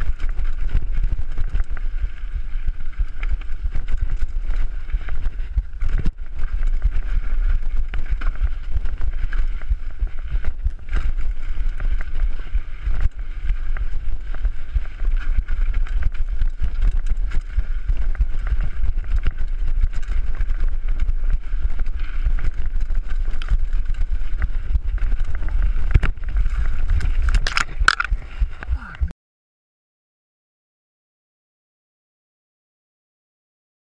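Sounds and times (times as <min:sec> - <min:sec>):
mountain bike rattling: 0:00.0 - 0:28.9
wind buffeting microphone: 0:00.0 - 0:29.1.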